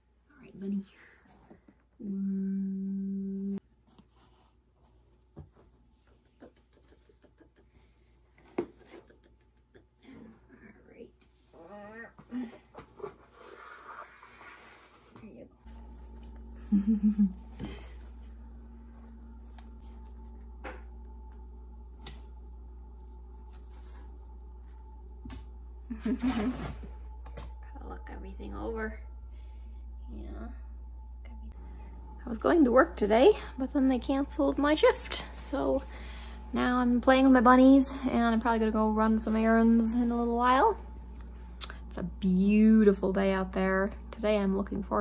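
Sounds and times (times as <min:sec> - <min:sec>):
steady low hum: 0:00.0 - 0:03.7, 0:07.6 - 0:45.0.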